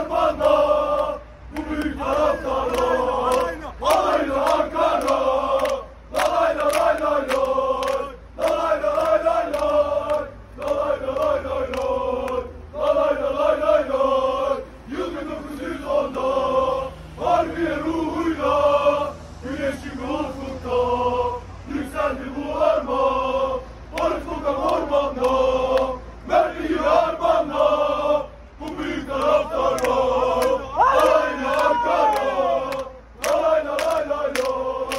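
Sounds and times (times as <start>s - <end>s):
men chanting in unison: 0.0s - 34.9s.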